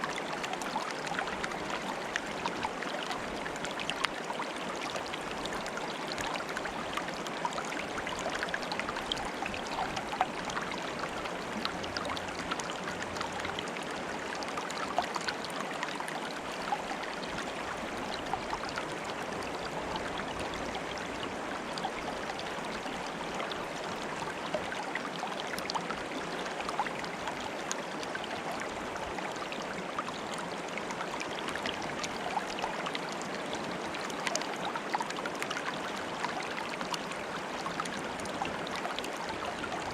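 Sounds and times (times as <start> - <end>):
stream water bubbling: 0.0 - 39.9.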